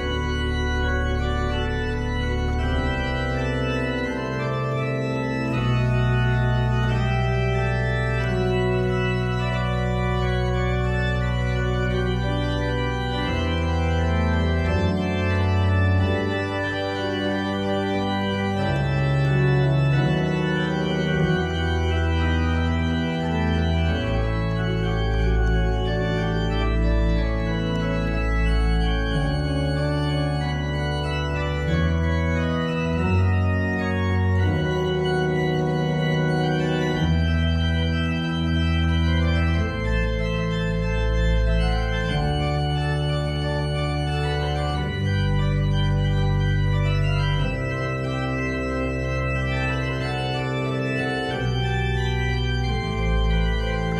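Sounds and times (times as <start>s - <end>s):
church organ chords: 0.0s - 53.9s.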